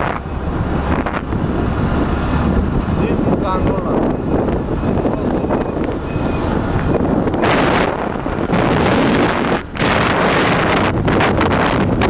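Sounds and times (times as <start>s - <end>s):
motorcycle engine running: 0.0s - 12.0s
road noise: 0.0s - 12.0s
wind buffeting microphone: 0.0s - 12.0s.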